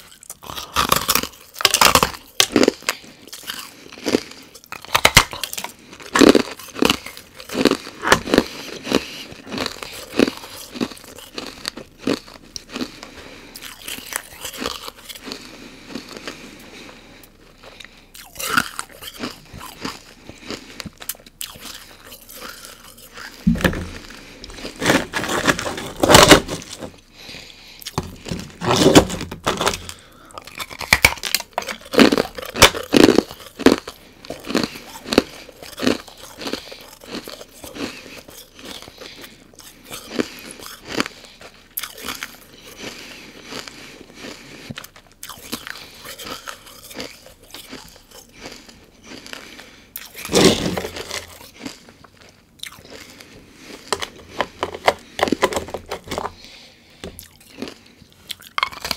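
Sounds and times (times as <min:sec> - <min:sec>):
crunching and chewing ice: 0:00.0 - 0:58.9.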